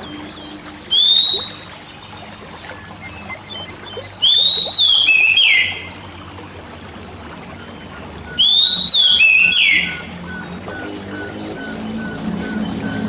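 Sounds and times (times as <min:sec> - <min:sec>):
bird whistling song: 0:00.0 - 0:06.0, 0:07.5 - 0:13.0.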